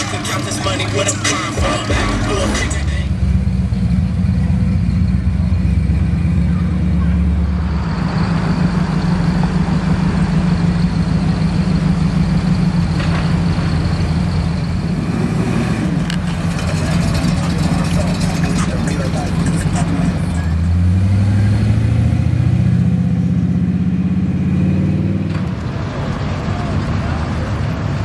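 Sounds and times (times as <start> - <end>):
car engines low exhaust rumble: 0.0 - 28.0.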